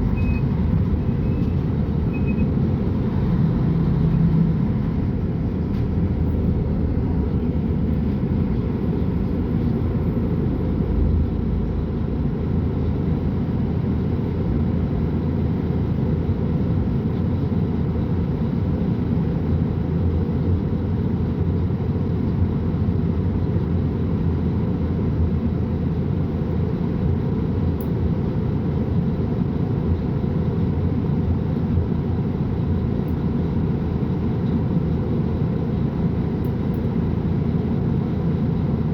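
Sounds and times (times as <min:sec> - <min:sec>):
bus diesel engine rumbling: 0:00.0 - 0:38.9.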